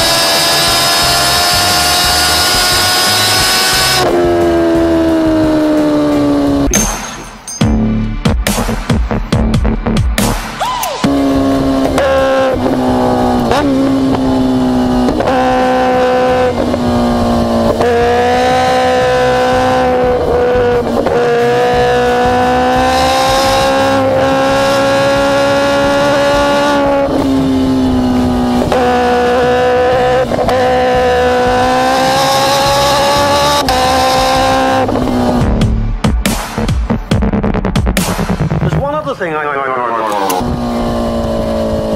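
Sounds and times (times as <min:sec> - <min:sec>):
motorcycle engine accelerating: 0:00.0 - 0:06.8, 0:11.0 - 0:36.0, 0:40.1 - 0:41.9.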